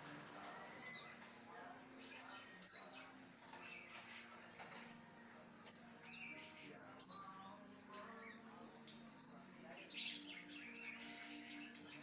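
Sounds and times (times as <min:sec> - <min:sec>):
lovebird chirping: 0:00.0 - 0:12.0.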